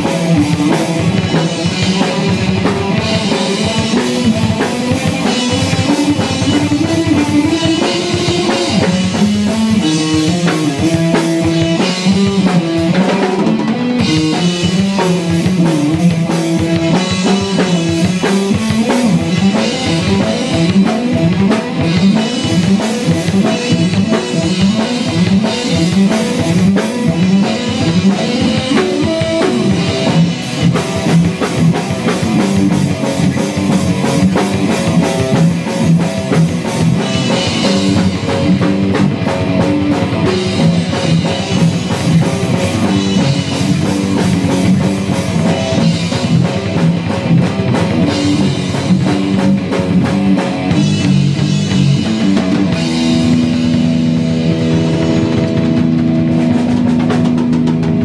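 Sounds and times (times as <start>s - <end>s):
drum kit fast beat: 0.0s - 58.0s
electric guitar riffs: 0.0s - 58.0s.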